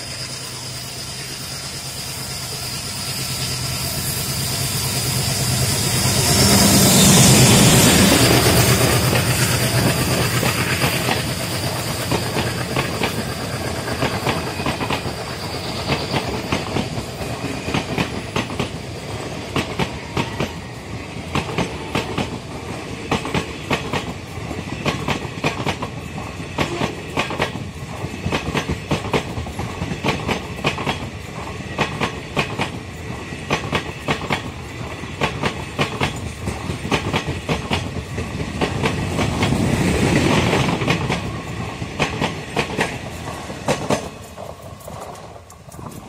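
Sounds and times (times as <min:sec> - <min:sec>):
train rumble: 0:00.0 - 0:46.0
train wheels clattering over rail joints: 0:07.5 - 0:46.0.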